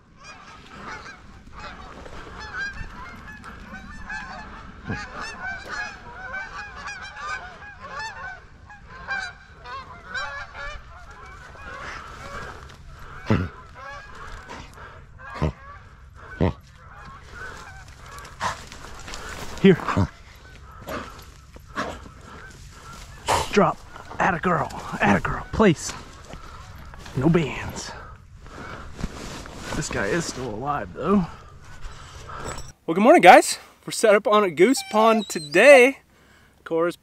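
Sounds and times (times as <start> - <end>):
geese honking: 0.0 - 36.4.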